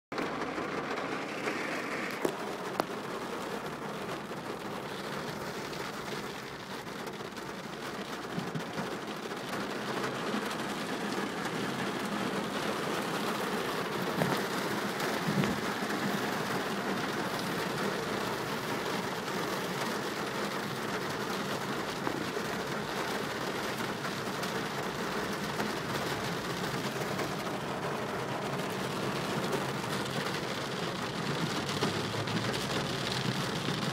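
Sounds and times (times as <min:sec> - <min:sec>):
heavy rain on car roof: 0:00.1 - 0:33.9.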